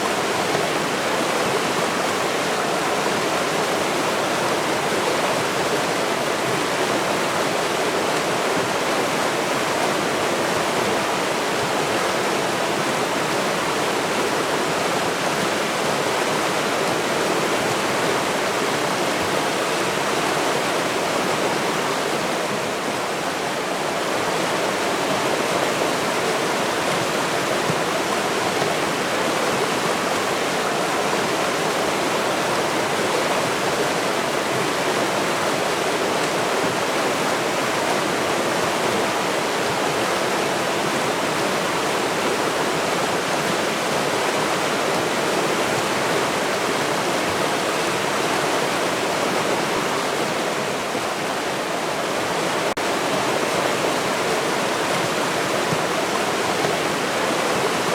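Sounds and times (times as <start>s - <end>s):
river water rushing: 0.0s - 57.9s.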